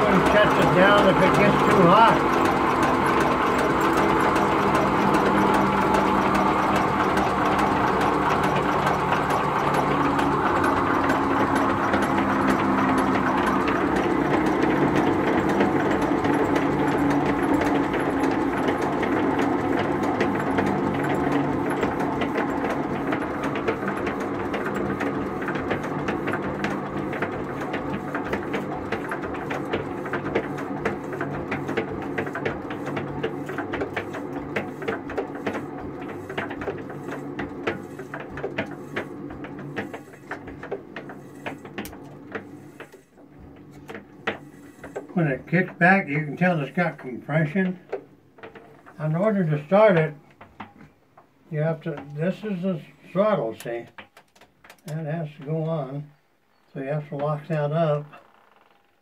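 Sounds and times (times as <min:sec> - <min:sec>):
stationary engine clattering: 0:00.0 - 0:59.0.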